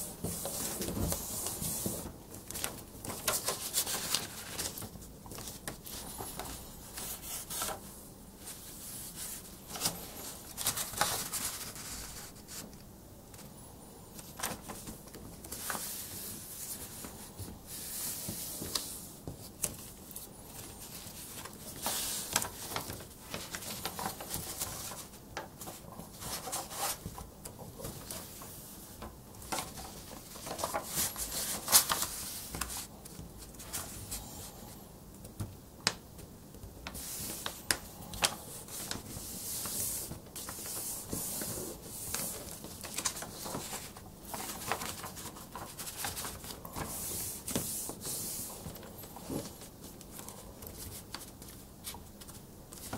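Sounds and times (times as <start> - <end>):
paper being folded and creased: 0.0 - 7.8, 8.4 - 12.8, 14.2 - 34.3, 36.8 - 52.9.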